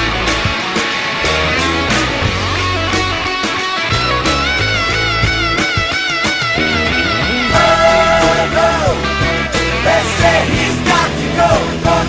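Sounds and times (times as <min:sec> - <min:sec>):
bass guitar: 0:00.0 - 0:12.0
electric guitar: 0:00.0 - 0:12.0
rock music: 0:00.0 - 0:12.0
steady drum beat: 0:00.0 - 0:12.0.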